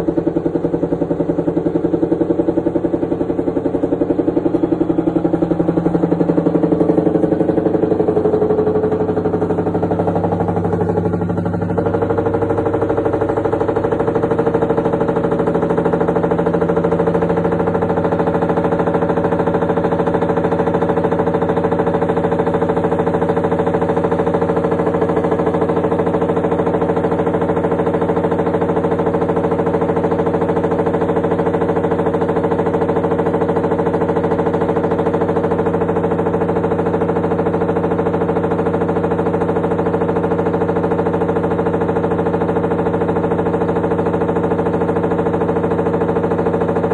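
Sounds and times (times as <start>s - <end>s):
washing machine spinning noisily: 0.0s - 46.9s.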